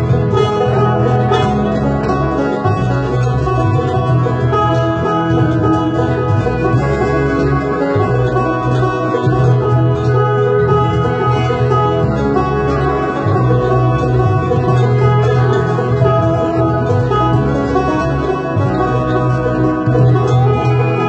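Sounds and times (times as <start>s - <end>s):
band backing with bass line: 0.0s - 21.0s
banjo picking: 0.0s - 21.0s.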